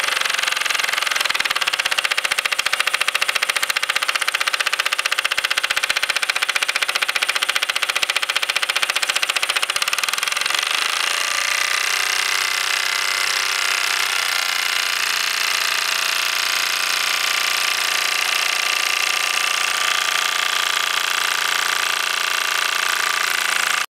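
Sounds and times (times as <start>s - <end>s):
model steam engine chuffing: 0.0s - 23.9s.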